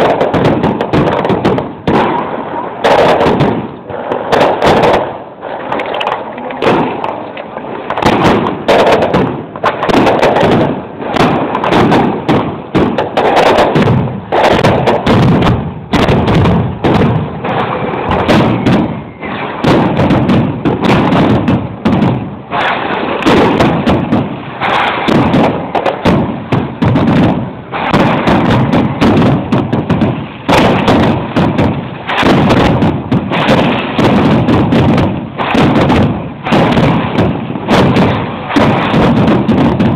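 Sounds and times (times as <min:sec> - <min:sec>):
firework bangs and crackles: 0:00.0 - 0:39.9.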